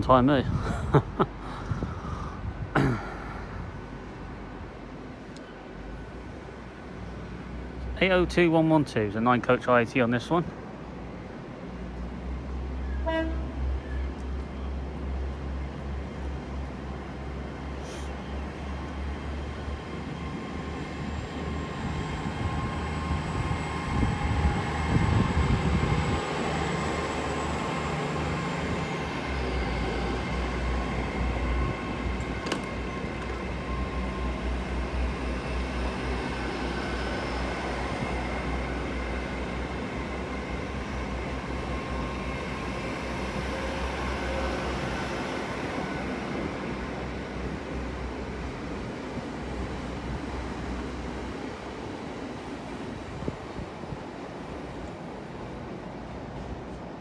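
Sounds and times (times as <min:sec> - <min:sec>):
train diesel engine drone: 0:00.0 - 0:57.0.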